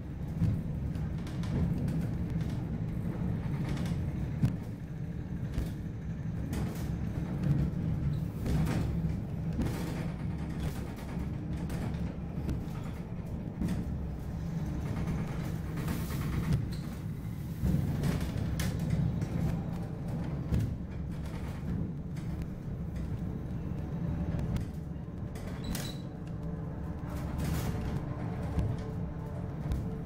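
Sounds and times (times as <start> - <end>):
funicular car rumbling: 0.0 - 30.0.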